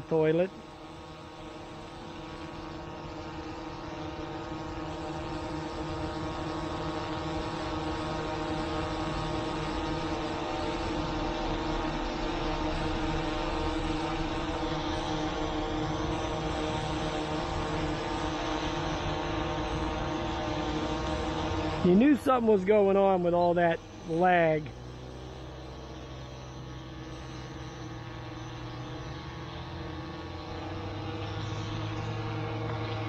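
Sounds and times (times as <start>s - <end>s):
drone propeller hum: 0.0s - 33.0s.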